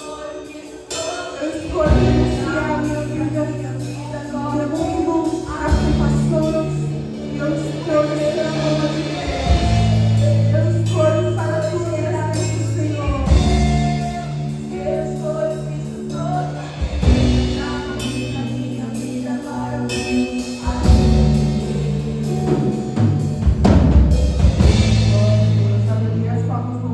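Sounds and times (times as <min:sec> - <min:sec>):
vocal group singing: 0:00.0 - 0:23.6
drum kit: 0:00.0 - 0:26.6
bass notes: 0:01.7 - 0:26.9.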